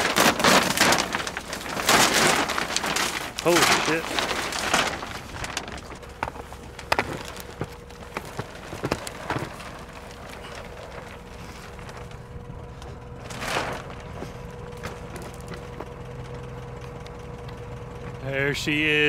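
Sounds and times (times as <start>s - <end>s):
plastic wrapping crinkling: 0.0s - 15.8s
forklift engine idling: 0.9s - 19.0s.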